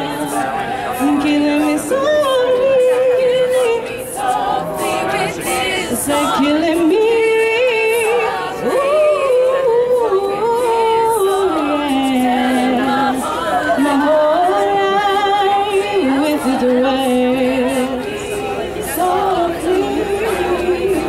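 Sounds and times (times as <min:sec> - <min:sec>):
backing voices singing: 0:00.0 - 0:21.0
woman singing lead: 0:00.0 - 0:21.0.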